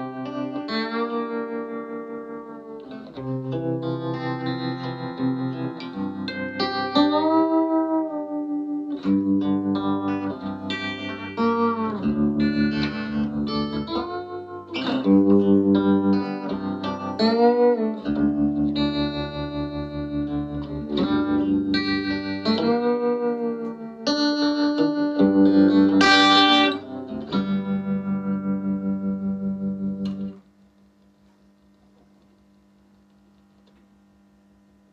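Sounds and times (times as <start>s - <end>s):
electric guitar with tremolo: 0.0s - 33.8s.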